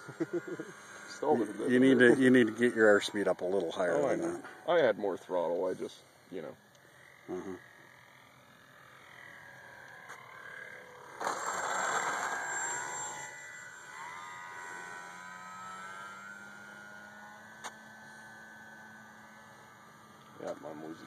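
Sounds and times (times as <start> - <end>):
rc airplane motor whining: 0.0 - 21.0.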